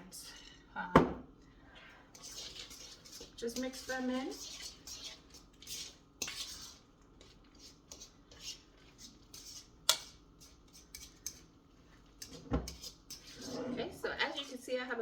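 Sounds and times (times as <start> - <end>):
utensil scraping mixing bowl: 2.0 - 14.6.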